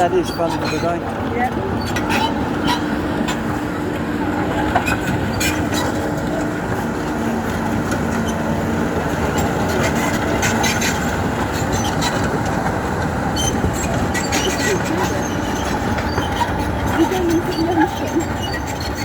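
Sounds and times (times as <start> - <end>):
excavator engine and hydraulic whine: 0.0 - 19.0.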